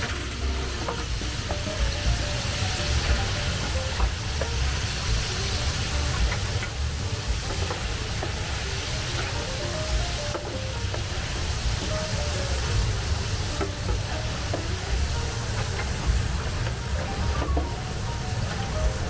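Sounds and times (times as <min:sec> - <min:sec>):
background music: 0:00.0 - 0:19.0
oil sizzling and bubbling: 0:00.0 - 0:19.0.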